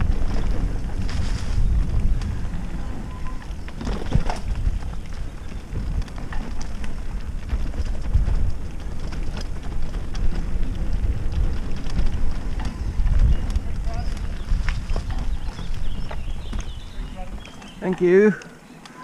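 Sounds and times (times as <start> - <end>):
wind buffeting microphone: 0.0 - 18.4
bike clicks and rattles: 0.0 - 19.0
bike tyre rumble on dirt: 0.0 - 19.0.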